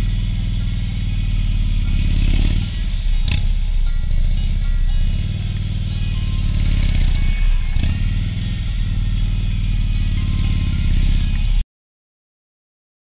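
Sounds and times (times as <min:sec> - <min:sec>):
motorcycle engine running low: 0:00.0 - 0:11.6.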